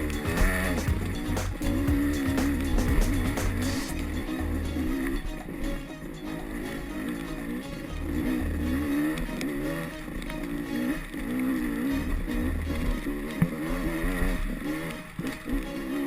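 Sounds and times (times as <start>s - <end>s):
motorcycle engine revving: 0.0s - 5.3s, 6.4s - 16.0s.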